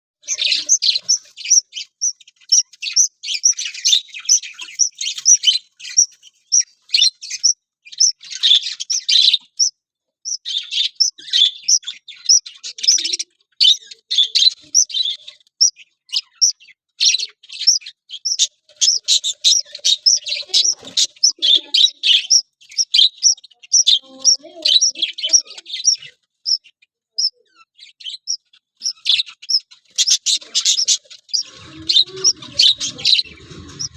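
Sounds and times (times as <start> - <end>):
budgerigars chirping: 0.2 - 33.9.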